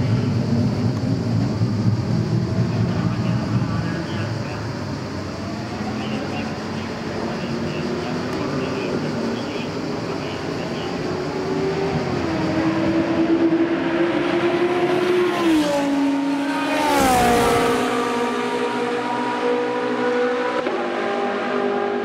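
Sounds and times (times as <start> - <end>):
race car engine passing by: 1.6 - 22.0.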